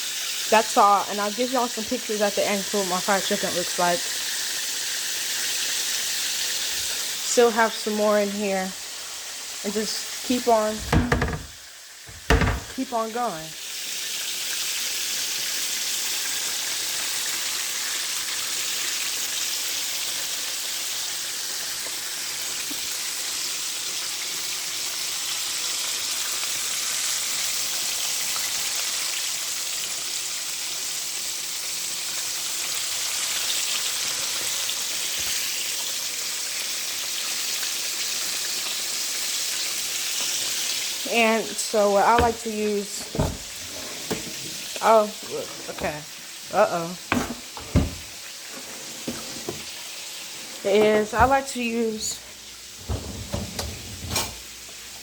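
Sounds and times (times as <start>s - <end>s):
chicken sizzling in hot oil: 0.0s - 43.7s, 44.3s - 55.0s.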